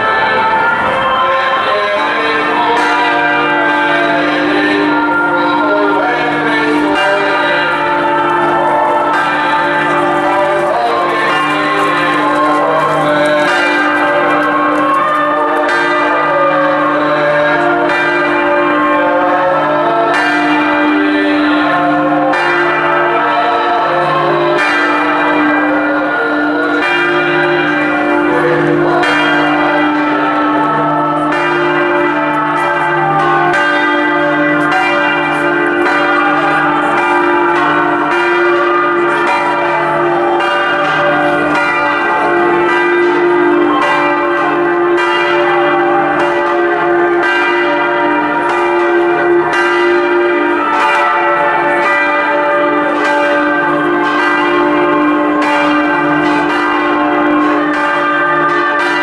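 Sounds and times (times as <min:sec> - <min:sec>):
low humming bell: 0:00.0 - 0:59.0
smaller bells ringing: 0:00.0 - 0:59.0.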